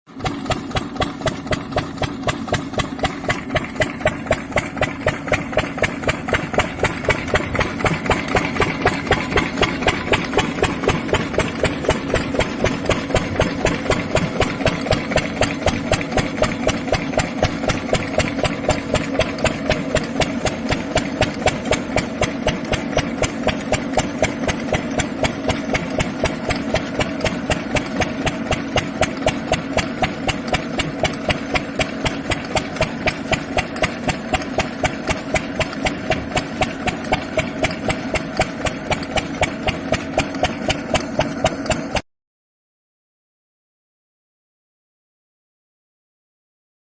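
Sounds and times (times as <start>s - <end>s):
diesel engine running: 0.1s - 42.0s.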